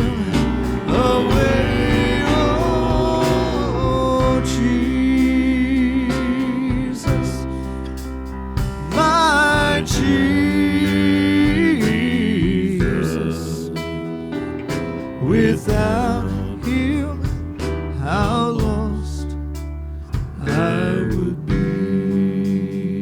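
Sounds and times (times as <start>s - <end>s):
instrumental accompaniment: 0.0s - 22.8s
voices singing gospel hymn: 0.0s - 23.0s.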